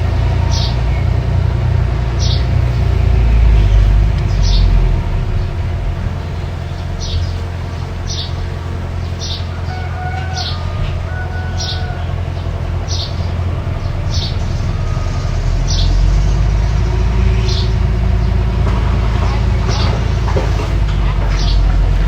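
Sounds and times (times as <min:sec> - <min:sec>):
mini bulldozer engine running: 0:00.0 - 0:22.0.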